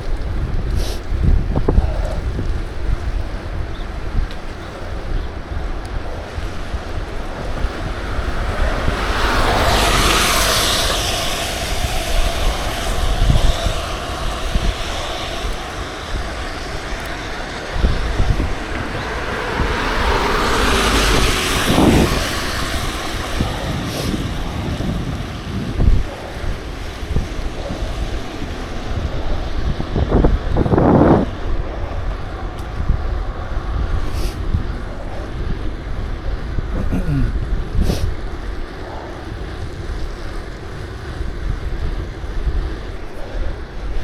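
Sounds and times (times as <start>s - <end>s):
wind buffeting microphone: 0.0s - 44.0s
traffic passing close: 3.9s - 44.0s.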